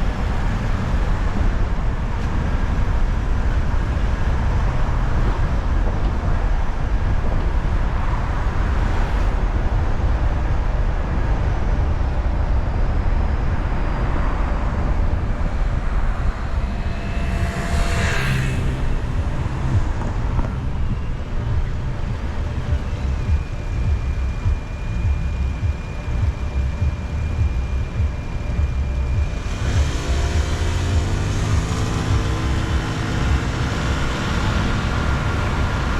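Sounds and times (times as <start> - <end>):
road and engine rumble: 0.0 - 35.9.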